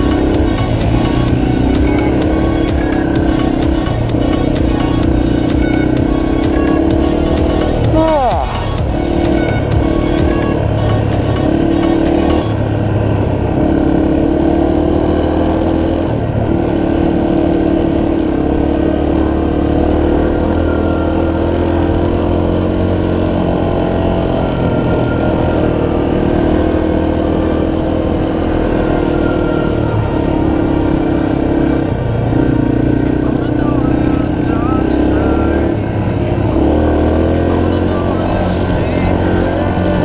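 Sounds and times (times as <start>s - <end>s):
dirt bike engine running: 0.0s - 40.0s
wind and road noise: 0.0s - 40.0s.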